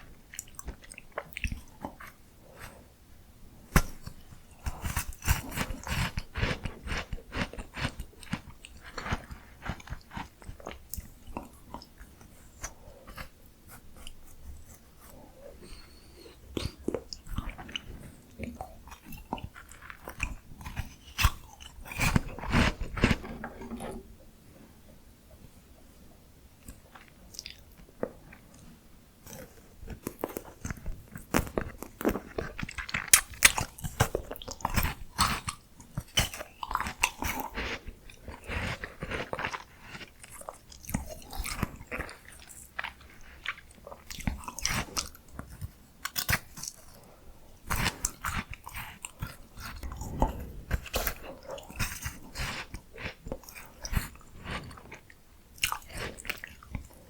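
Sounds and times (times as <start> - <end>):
crunchy chewing of ice cream: 0.0 - 2.9, 3.7 - 24.1, 26.6 - 57.0.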